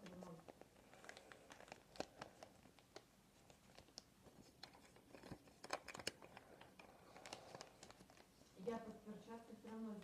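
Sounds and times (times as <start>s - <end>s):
paper being folded and creased: 0.0s - 8.4s.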